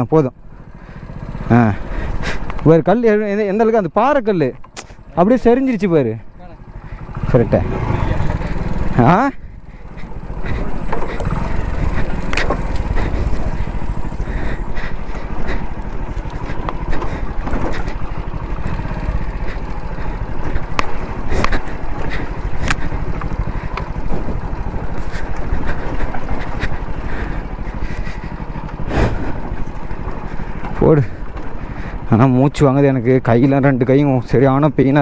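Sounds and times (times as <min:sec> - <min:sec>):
motorcycle engine rumble: 0:00.0 - 0:35.0.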